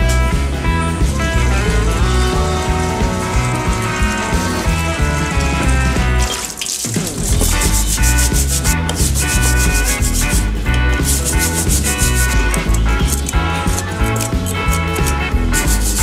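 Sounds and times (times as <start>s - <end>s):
background music: 0.0s - 16.0s
brush scrubbing metal: 2.4s - 16.0s.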